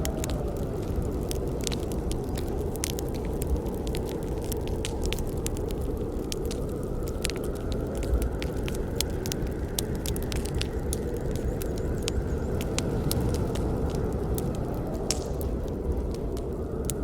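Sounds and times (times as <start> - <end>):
burning wood crackling and popping: 0.0 - 17.0
low rush of flames: 0.0 - 17.0.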